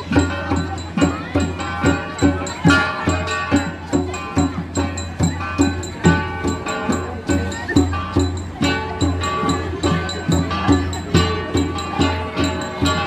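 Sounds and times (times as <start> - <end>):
flat gongs struck rhythmically: 0.0 - 13.0.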